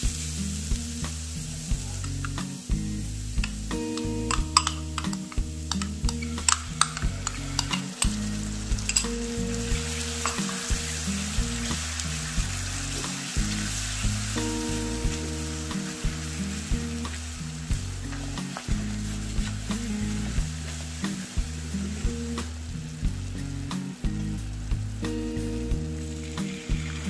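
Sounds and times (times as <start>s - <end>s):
background music: 0.0s - 27.0s
chicken sizzling in hot oil: 0.0s - 27.0s.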